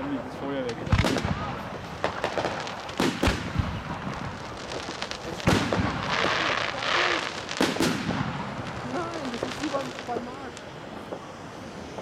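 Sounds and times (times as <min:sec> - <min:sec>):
firework bangs: 0:00.0 - 0:12.0
fountain fireworks hissing: 0:00.0 - 0:12.0.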